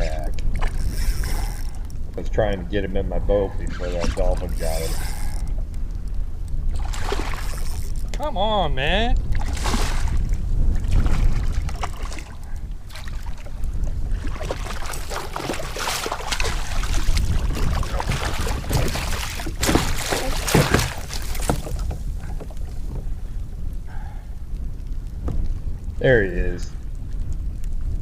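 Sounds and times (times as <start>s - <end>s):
water splashing around kayak: 0.0s - 3.0s, 3.6s - 8.4s, 9.0s - 25.7s
wind rumble on microphone: 0.0s - 28.0s.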